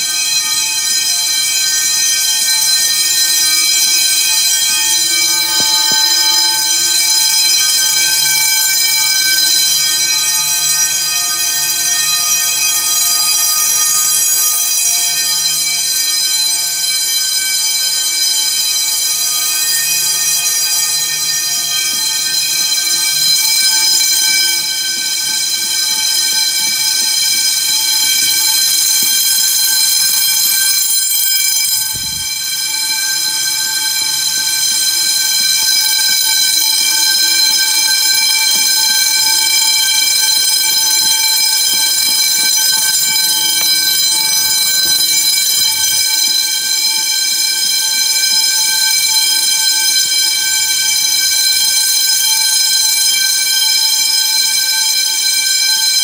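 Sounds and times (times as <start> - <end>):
fire alarm bells ringing: 0.0 - 56.0.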